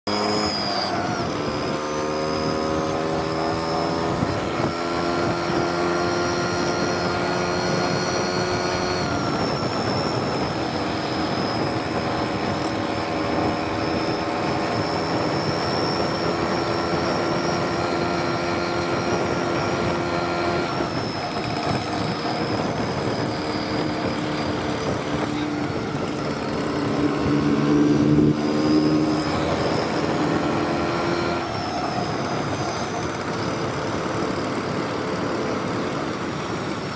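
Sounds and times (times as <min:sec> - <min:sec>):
scooter engine at full throttle: 0:00.0 - 0:36.9.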